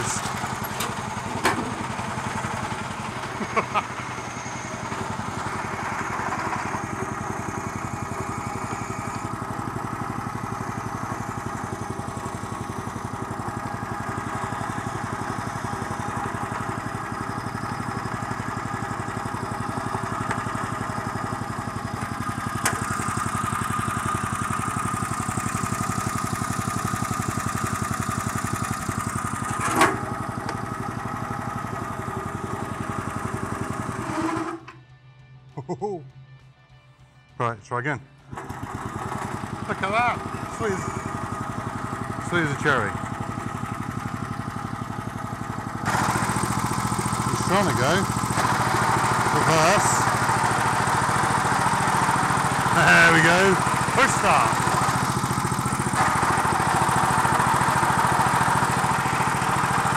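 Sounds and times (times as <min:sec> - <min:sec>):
lawn tractor engine running: 0:00.0 - 0:34.9, 0:38.2 - 0:59.9.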